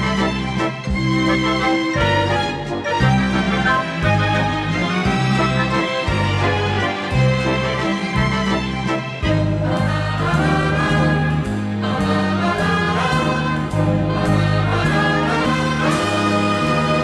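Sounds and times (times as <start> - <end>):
ballroom dance music: 0.0 - 17.0.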